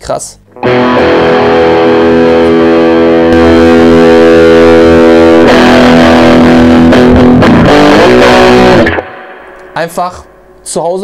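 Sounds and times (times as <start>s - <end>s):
distorted electric guitar chords: 0.5s - 10.8s.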